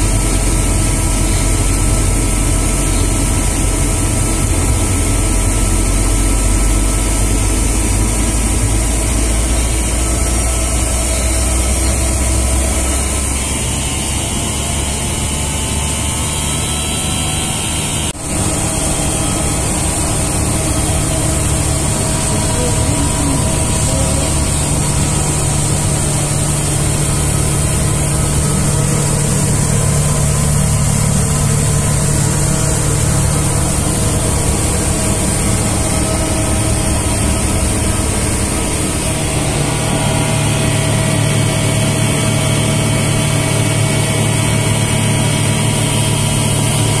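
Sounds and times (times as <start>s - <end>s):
air compressor running: 0.0s - 47.0s.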